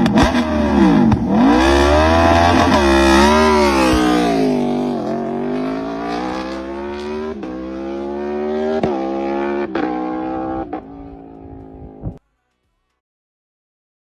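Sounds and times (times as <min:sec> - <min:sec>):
motorcycle engine accelerating: 0:00.0 - 0:12.2.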